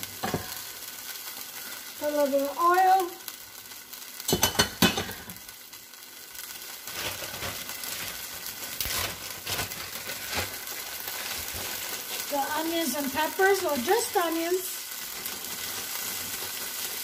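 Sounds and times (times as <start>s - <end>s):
crackles and pops: 0.0s - 17.0s
oil sizzling in a skillet: 0.0s - 17.0s.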